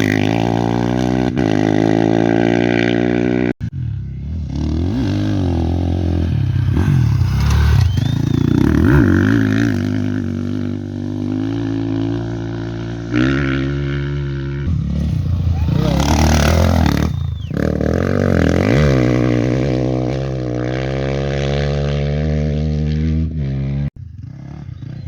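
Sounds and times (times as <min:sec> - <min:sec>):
motorcycles passing at speed: 0:00.0 - 0:25.0.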